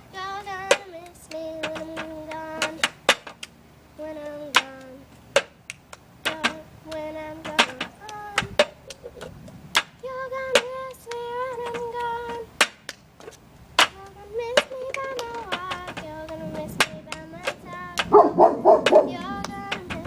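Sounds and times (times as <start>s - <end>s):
high voice singing: 0.0s - 12.9s, 13.8s - 20.0s
sharp claps or clicks: 0.7s - 3.6s, 4.2s - 18.2s, 18.8s - 20.0s.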